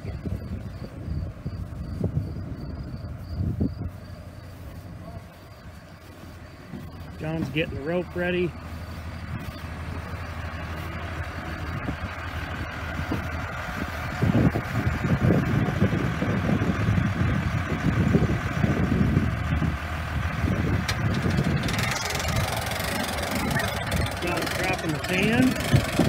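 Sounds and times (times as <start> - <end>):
tractor diesel engine idling: 0.0 - 26.0.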